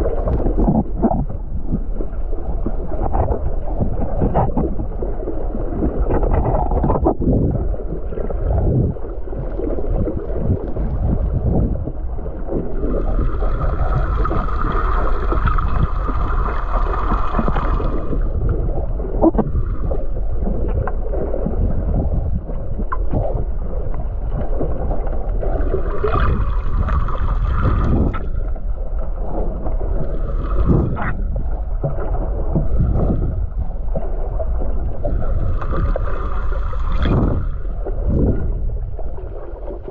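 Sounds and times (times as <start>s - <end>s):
water sloshing and rushing: 0.0s - 39.9s.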